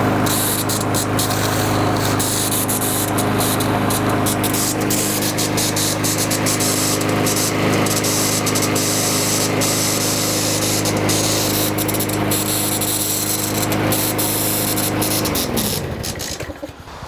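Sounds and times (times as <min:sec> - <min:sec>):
recoil starter pawl catching: 0:00.0 - 0:16.8
engine winding down: 0:00.0 - 0:17.0
lawnmower engine running: 0:00.0 - 0:17.0.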